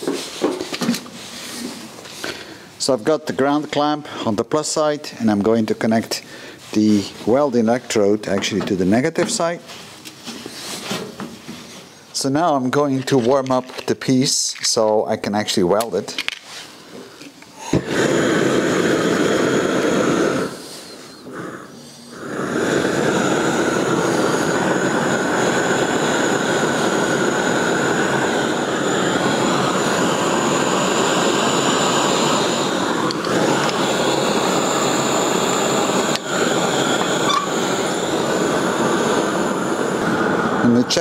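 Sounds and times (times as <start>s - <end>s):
gas torch roaring: 0.0s - 14.6s, 15.2s - 41.0s.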